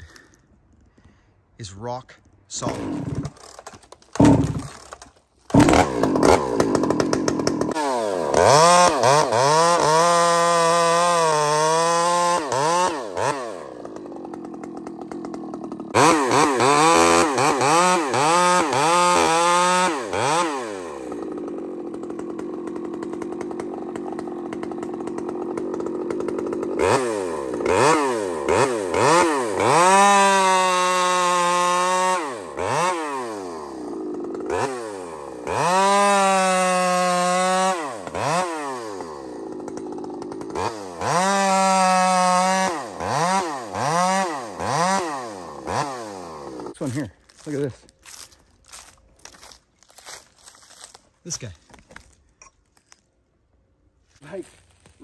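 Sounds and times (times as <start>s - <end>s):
chainsaw revving and idling: 2.5s - 52.2s
chainsaw cutting log: 2.5s - 53.0s.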